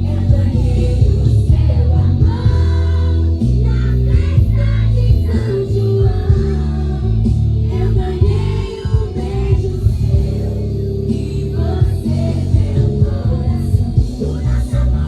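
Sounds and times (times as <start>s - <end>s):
heavy steady bass line: 0.0s - 15.0s
person singing: 0.0s - 15.0s.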